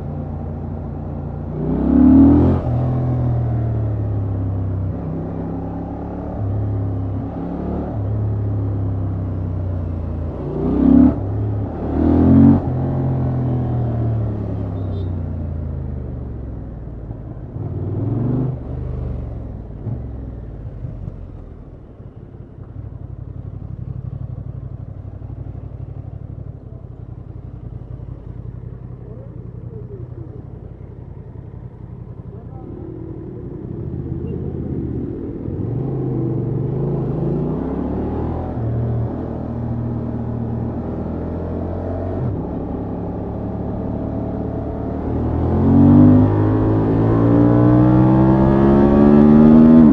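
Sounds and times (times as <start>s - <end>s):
motorcycle engine revving: 0.0s - 15.9s, 23.2s - 49.9s.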